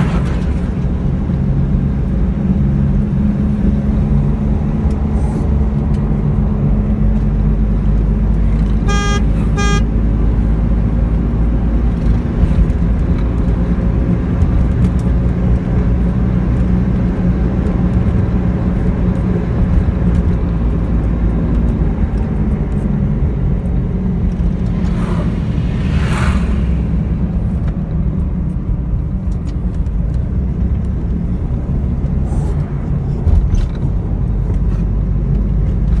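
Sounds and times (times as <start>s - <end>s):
road rumble: 0.0s - 36.0s
vehicle engine running: 0.0s - 36.0s.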